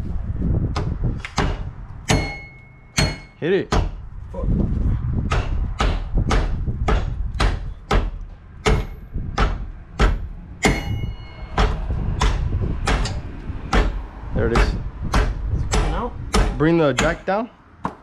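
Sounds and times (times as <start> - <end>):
hammer blows on metal: 0.7 - 4.0, 5.2 - 17.3.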